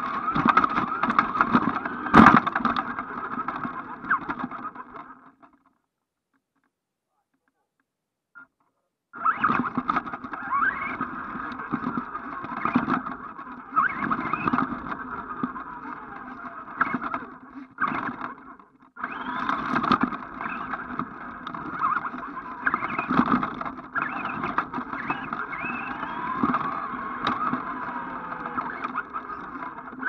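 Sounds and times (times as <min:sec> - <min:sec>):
electric motor whining: 0:00.0 - 0:05.1, 0:09.2 - 0:30.0.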